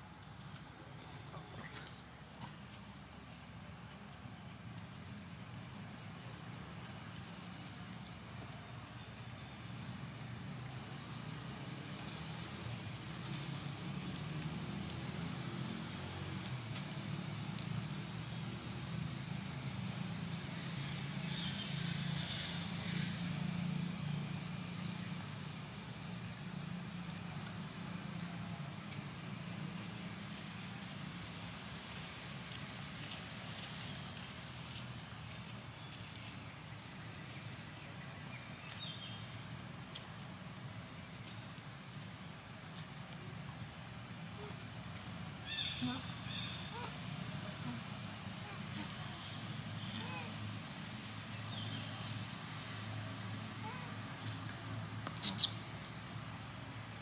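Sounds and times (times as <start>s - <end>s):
constant hiss: 0.0s - 57.0s
insects buzzing: 0.0s - 57.0s.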